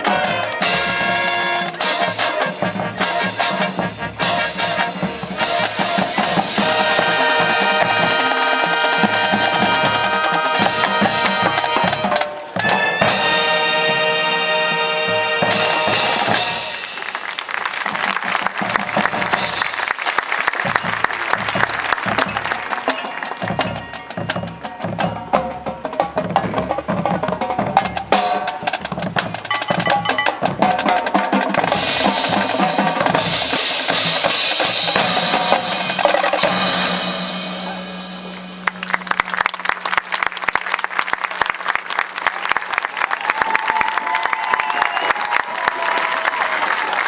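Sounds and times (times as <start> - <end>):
marching band playing: 0.0 - 47.0.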